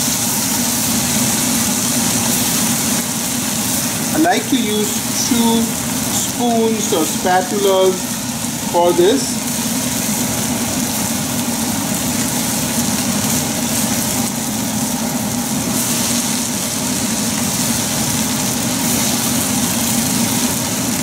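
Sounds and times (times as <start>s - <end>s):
gas stove hiss: 0.0s - 21.0s
mechanical hum: 0.0s - 21.0s
rice stir-fried in a pan: 0.0s - 21.0s.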